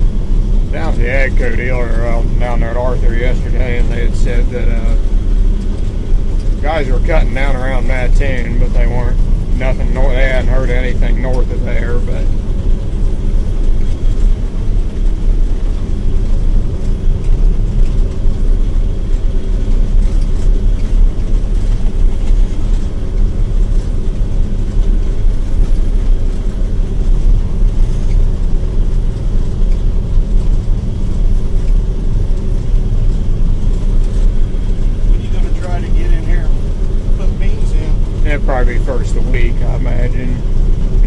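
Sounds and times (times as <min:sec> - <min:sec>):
combine harvester engine drone: 0:00.0 - 0:41.0.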